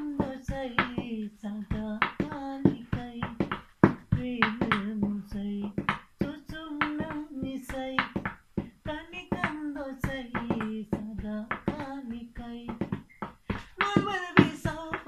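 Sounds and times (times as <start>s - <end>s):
man singing unaccompanied: 0.0s - 13.1s, 13.7s - 15.0s
hands beating a rhythm: 0.0s - 15.0s.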